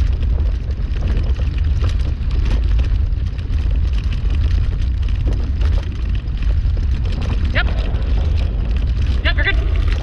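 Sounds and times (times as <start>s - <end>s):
light ticks and rattles: 0.0s - 10.0s
wheeled rig rolling on trail: 0.0s - 10.0s.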